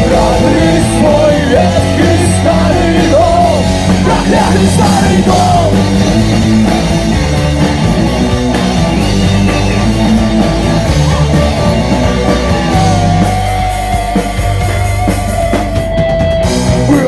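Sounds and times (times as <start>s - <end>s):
heavy rock music: 0.0s - 17.0s.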